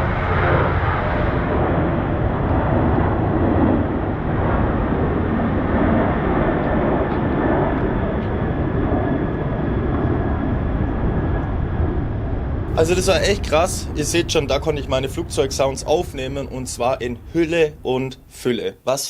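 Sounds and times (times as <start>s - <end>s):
jet airliner engine noise: 0.0s - 18.7s.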